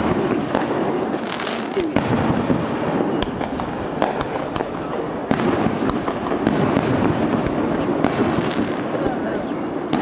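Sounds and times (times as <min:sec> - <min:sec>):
constant noisy din: 0:00.0 - 0:10.0
firework shells bursting and crackling: 0:00.0 - 0:10.0.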